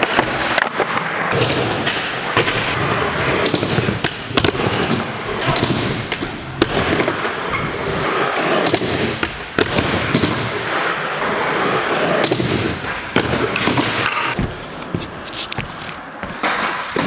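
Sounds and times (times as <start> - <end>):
skateboard wheels rolling: 0.0 - 17.0
skateboards clacking on surface: 0.0 - 17.0.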